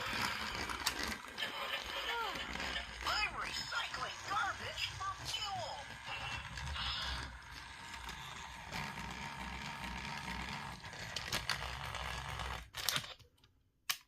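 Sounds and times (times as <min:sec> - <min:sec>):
wheels rattling on plastic track: 0:00.0 - 0:13.0
toy train motor whirring: 0:00.0 - 0:13.1.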